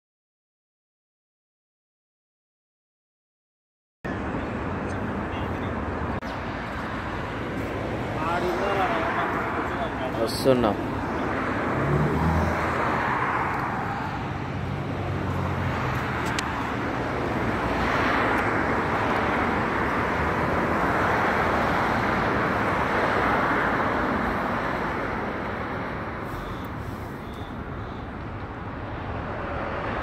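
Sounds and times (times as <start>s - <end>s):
passing vehicles rushing: 4.1s - 30.0s.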